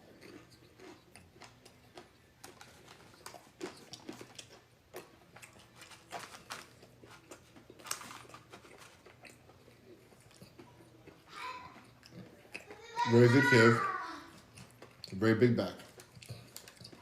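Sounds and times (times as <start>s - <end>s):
chewing and lip-smacking: 0.0s - 12.9s, 14.3s - 17.0s.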